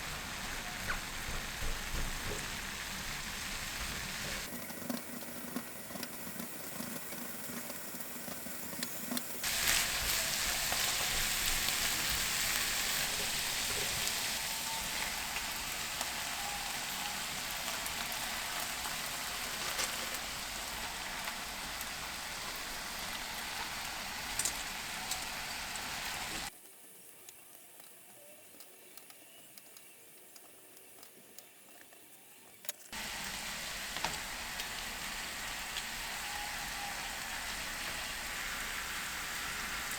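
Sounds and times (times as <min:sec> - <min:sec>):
food sizzling in a frying pan: 0:00.0 - 0:26.5, 0:32.9 - 0:39.9.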